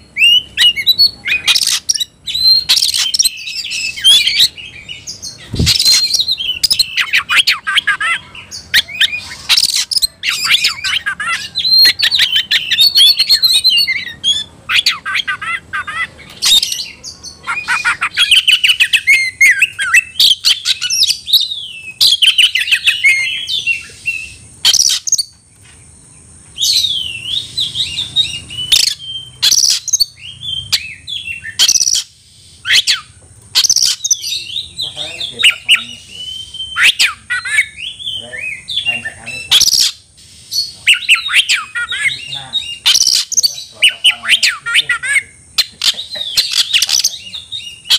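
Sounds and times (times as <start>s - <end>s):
bird singing whistles and trills: 0.0s - 25.4s, 26.5s - 47.9s.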